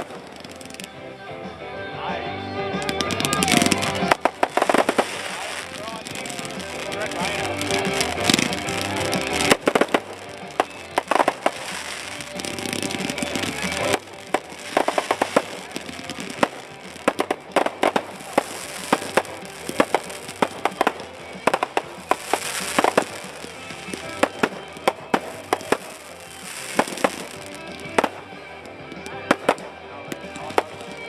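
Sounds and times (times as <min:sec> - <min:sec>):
hissing fizz: 0:00.0 - 0:00.9, 0:02.9 - 0:29.2
fireworks bangs and crackling: 0:00.0 - 0:31.0.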